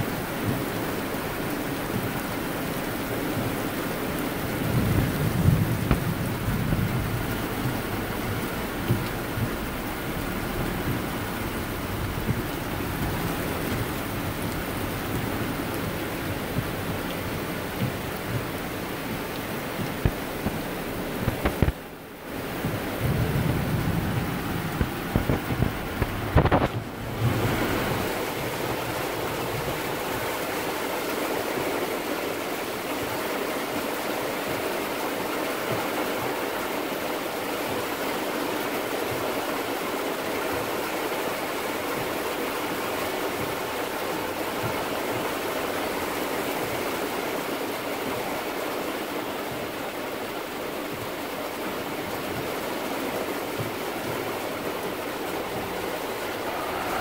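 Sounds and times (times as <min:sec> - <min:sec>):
heavy downpour hiss: 0:00.0 - 0:57.0
stormwater running along street: 0:00.0 - 0:57.0.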